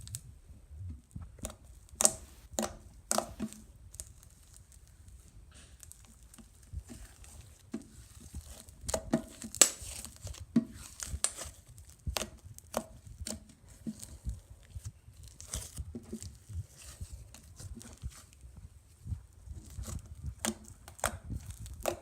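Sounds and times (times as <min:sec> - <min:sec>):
slime squeezed with sticky crackles: 0:01.0 - 0:18.5, 0:19.1 - 0:22.0.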